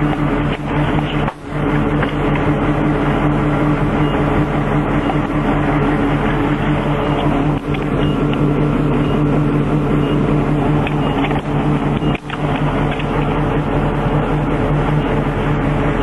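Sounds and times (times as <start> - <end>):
road noise: 0.0 - 16.0
vehicle engine drone: 0.0 - 16.0.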